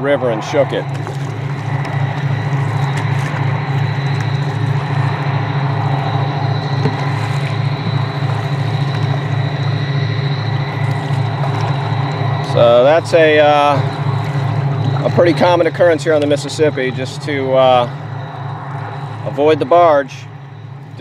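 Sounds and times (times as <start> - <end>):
boat diesel engines droning: 0.0 - 21.0.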